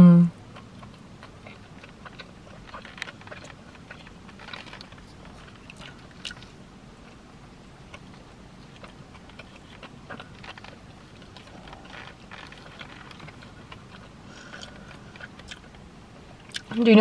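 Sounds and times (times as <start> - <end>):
person chewing food: 0.4 - 16.8.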